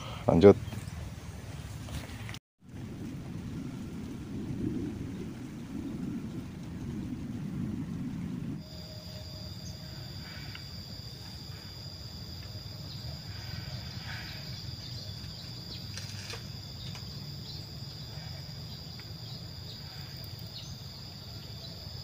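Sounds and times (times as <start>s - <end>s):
wind rumble on microphone: 0.0s - 21.2s
crickets trilling: 3.2s - 22.0s.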